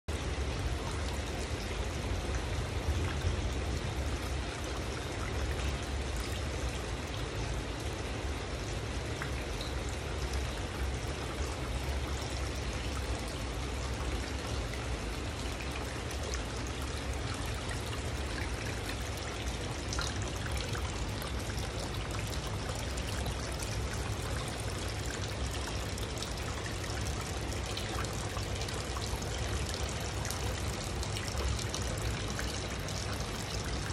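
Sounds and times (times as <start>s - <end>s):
low steady hum: 0.1s - 33.9s
water splashing into aquarium: 0.2s - 33.9s.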